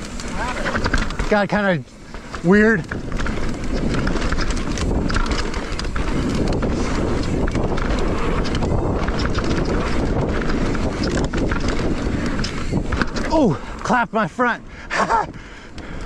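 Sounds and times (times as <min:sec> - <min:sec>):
bike clicks and rattles: 0:00.0 - 0:16.0
tyres running on dirt: 0:00.0 - 0:16.0
wind rushing over microphone: 0:00.0 - 0:16.0.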